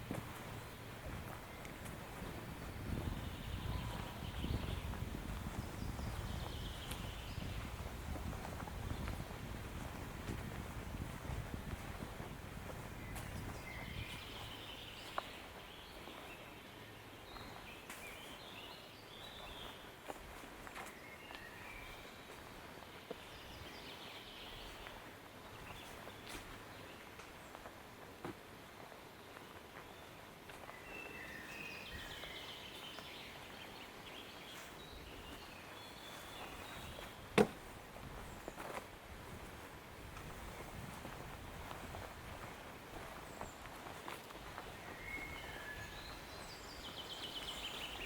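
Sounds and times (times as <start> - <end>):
songbirds singing: 0.0 - 27.9, 28.8 - 39.0, 39.6 - 48.0
faint birdsong: 0.0 - 48.0.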